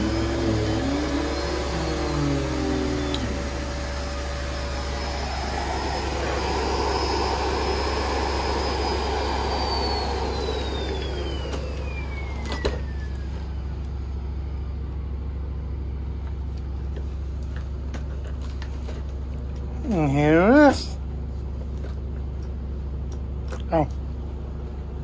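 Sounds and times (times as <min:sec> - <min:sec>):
vacuum cleaner motor whine: 0:00.0 - 0:21.9.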